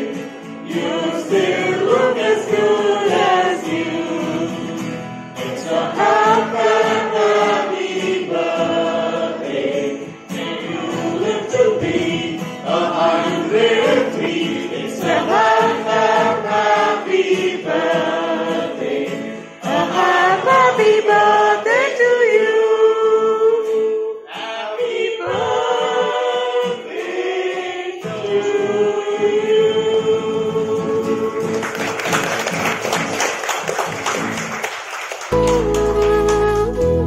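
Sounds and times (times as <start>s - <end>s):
strummed acoustic guitar: 0.0s - 22.0s, 23.6s - 34.5s
group singing in unison: 0.0s - 32.3s.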